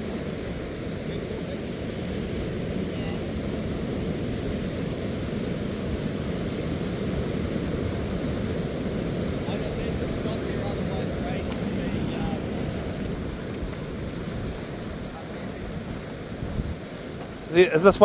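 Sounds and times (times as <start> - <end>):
low rushing outdoor rumble: 0.0 - 18.0.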